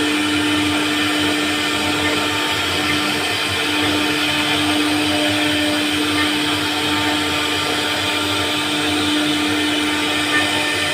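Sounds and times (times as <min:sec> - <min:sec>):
router spindle whining: 0:00.0 - 0:10.9.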